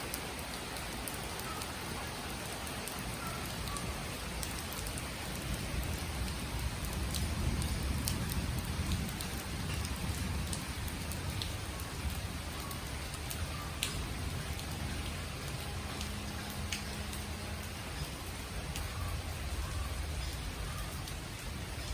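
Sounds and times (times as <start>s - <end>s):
rain hissing: 0.0s - 21.9s
raindrop ticks: 0.0s - 21.9s.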